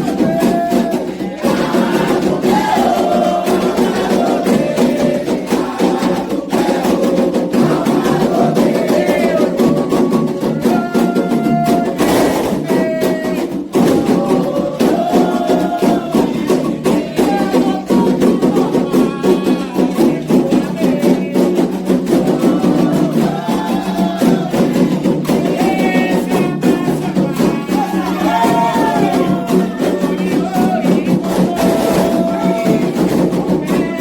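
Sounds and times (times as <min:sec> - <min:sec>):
hand drums: 0:00.0 - 0:34.0
voices singing: 0:00.0 - 0:34.0.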